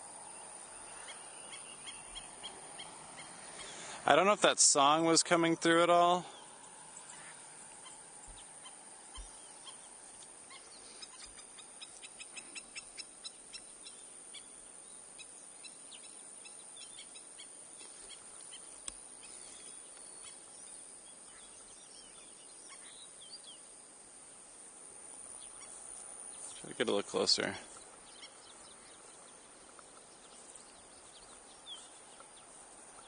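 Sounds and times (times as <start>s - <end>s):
faint songbird song: 0.0s - 33.0s
outdoor background noise: 0.0s - 33.0s.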